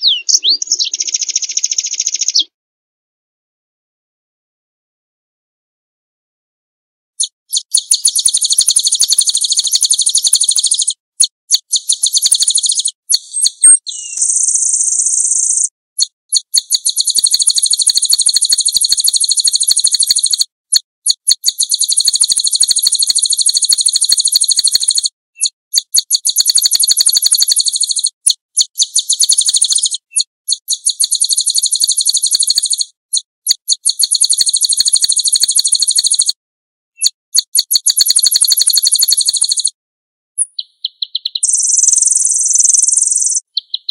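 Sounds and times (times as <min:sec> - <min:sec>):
bird singing rapid high trills: 0:00.0 - 0:02.5, 0:07.2 - 0:20.5, 0:21.1 - 0:36.4, 0:37.0 - 0:39.7, 0:40.4 - 0:43.9.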